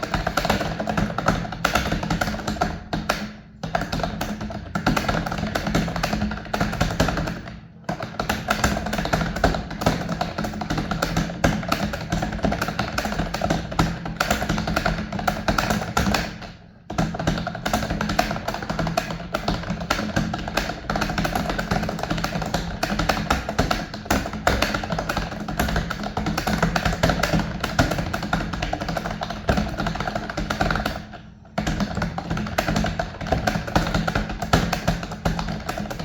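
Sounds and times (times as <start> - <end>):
fast typing on keyboard: 0.0 - 36.0.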